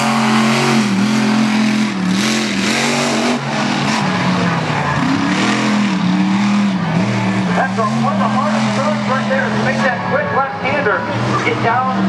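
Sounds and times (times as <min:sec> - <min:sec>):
monster truck engine racing: 0:00.0 - 0:12.0.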